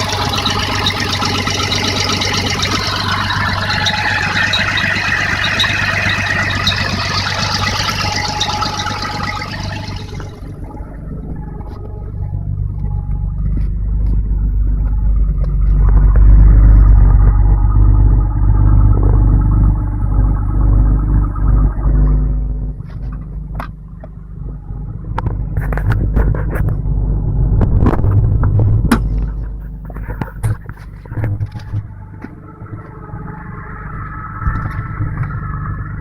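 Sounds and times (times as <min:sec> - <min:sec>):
car engine low rumble: 0:00.0 - 0:36.0.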